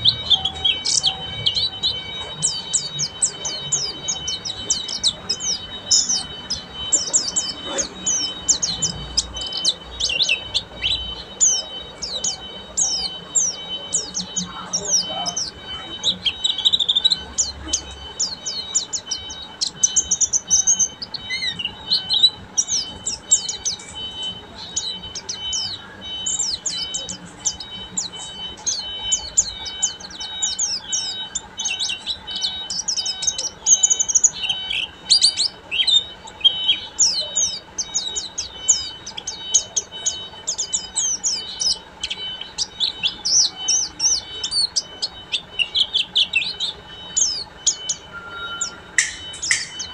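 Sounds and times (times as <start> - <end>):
bird twittering song: 0.0 - 49.9.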